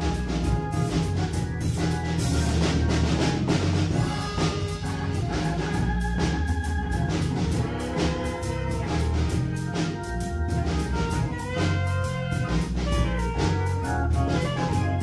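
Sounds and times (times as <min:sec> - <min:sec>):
deep bass line: 0:00.0 - 0:15.0
drum kit with cymbal strikes: 0:00.0 - 0:15.0
held keyboard chords: 0:00.0 - 0:15.0.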